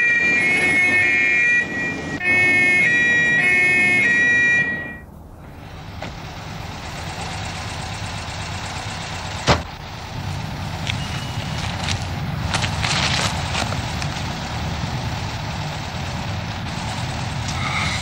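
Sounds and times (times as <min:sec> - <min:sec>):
low engine noise: 0:00.0 - 0:18.0.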